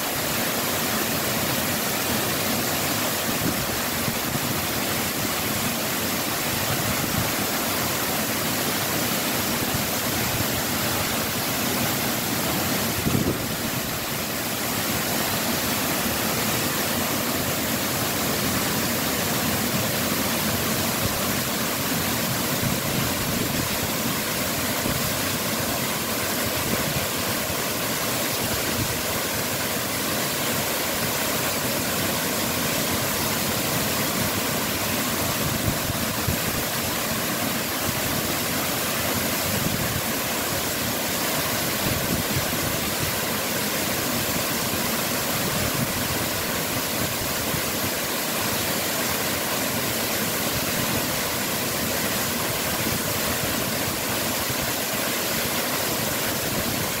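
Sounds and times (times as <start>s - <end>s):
waterfall rushing onto rock: 0.0s - 57.0s.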